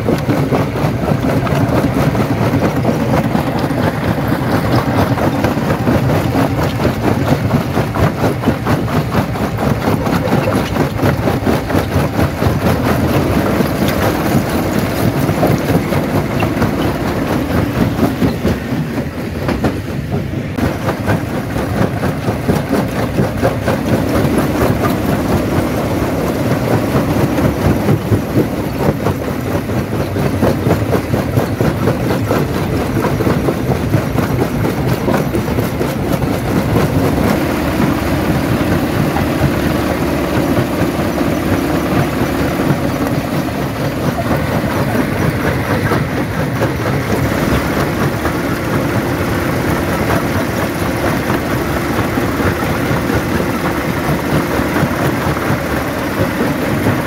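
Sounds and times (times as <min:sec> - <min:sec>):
jaw crusher low rumble: 0:00.0 - 0:57.0.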